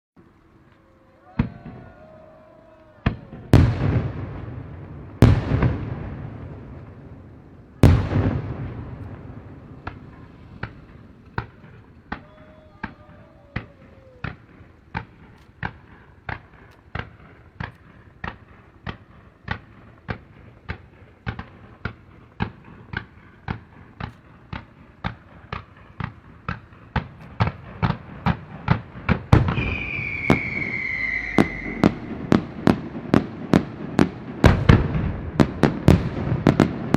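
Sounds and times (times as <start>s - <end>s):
whistling firework: 0.6s - 36.9s
firework shells booming: 3.0s - 36.9s
sharp firework bangs: 3.0s - 36.9s.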